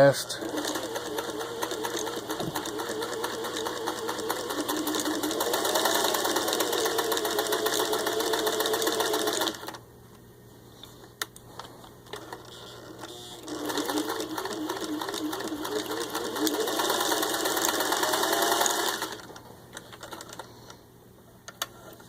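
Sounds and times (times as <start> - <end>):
sewing machine stitching: 0.0 - 9.8, 12.2 - 20.5.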